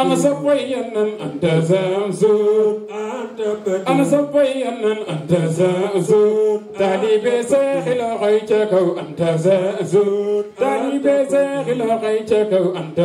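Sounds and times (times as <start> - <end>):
men singing devotional chant: 0.0 - 13.0.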